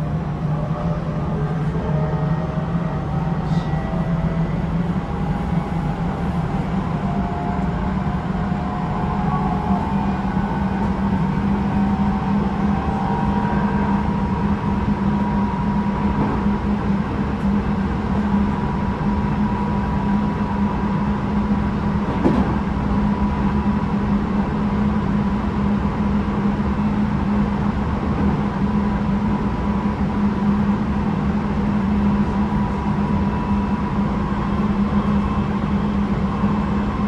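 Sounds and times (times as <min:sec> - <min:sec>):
train wheels rumbling on track: 0:00.0 - 0:37.0.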